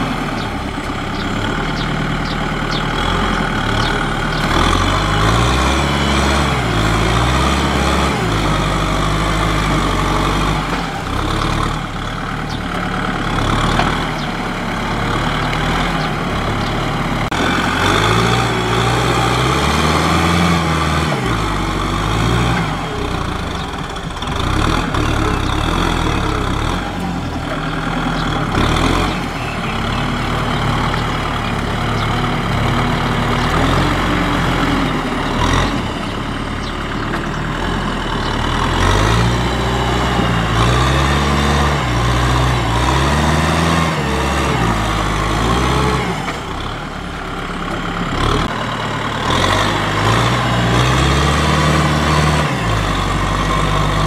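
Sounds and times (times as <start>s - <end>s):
diesel tractor engine under load: 0.0s - 54.0s
wheels churning through mud: 0.0s - 54.0s.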